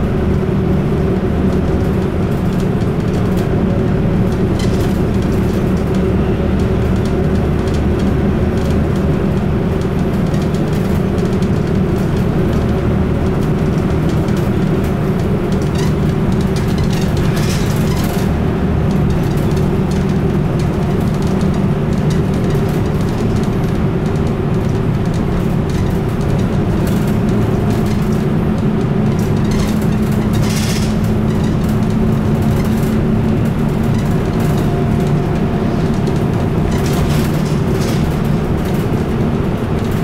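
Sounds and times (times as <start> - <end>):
bus engine droning: 0.0 - 40.0
road and tyre noise: 0.0 - 40.0.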